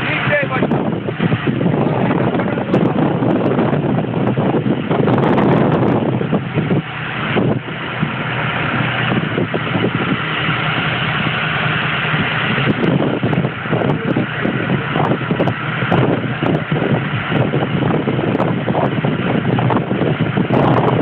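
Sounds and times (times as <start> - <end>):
boat engine running: 0.0 - 21.0
wind gusting on microphone: 0.0 - 21.0.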